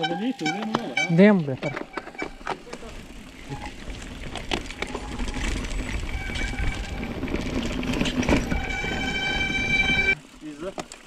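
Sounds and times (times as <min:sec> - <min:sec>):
bike clicks and rattling knocks: 0:00.4 - 0:11.0
bike rolling on dirt track: 0:01.5 - 0:11.0.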